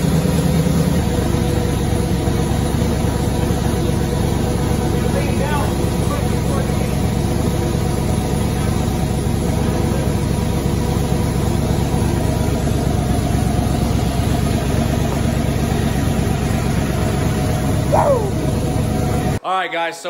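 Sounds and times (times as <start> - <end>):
unmuffled car engine idling: 0.0 - 19.4.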